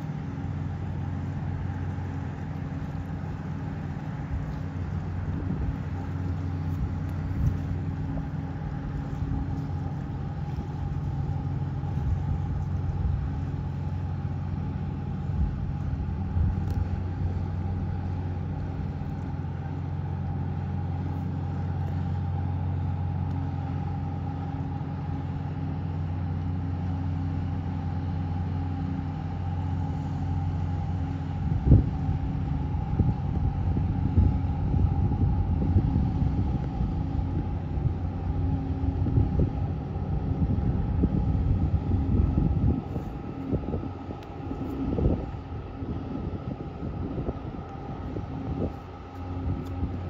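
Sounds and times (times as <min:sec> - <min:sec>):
ship engines droning: 0:00.0 - 0:50.0.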